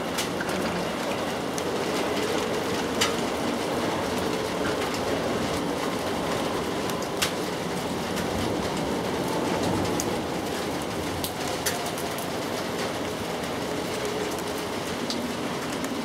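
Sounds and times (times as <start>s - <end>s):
rain on grass and leaves: 0.0s - 16.0s.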